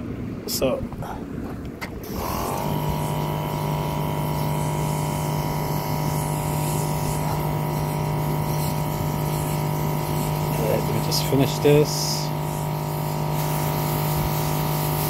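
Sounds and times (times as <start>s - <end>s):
pressure washer motor hum: 1.9s - 15.0s
water spray hissing: 2.0s - 15.0s.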